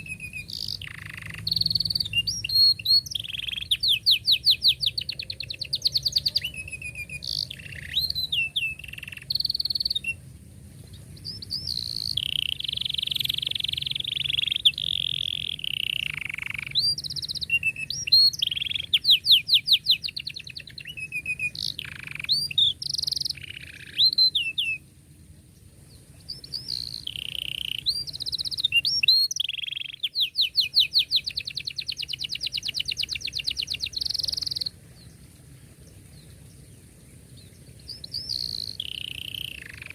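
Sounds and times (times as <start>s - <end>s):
canary singing trills and chirps: 0.0s - 10.3s, 10.9s - 24.9s, 25.9s - 35.2s, 37.3s - 39.9s.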